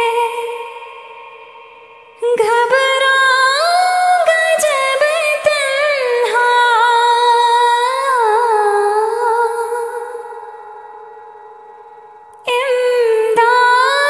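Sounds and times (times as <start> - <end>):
woman singing: 0.0 - 11.1, 12.4 - 14.0.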